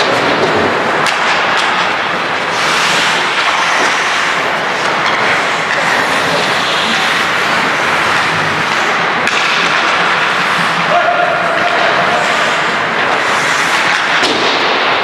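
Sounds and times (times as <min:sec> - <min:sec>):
hockey sticks or puck clacking: 0:00.0 - 0:15.0
skates scraping ice: 0:00.0 - 0:15.0.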